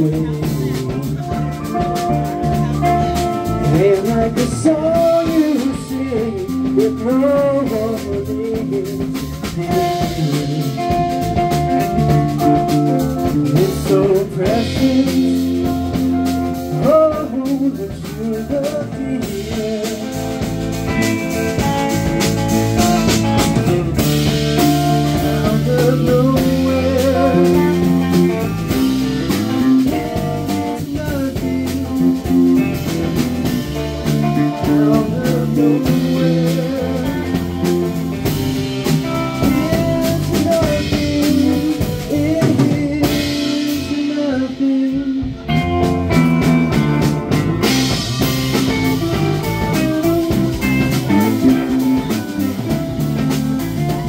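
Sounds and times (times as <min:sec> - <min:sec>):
bass guitar: 0:00.0 - 0:54.0
drum kit: 0:00.0 - 0:54.0
electric guitar: 0:00.0 - 0:54.0
keyboard: 0:00.0 - 0:54.0.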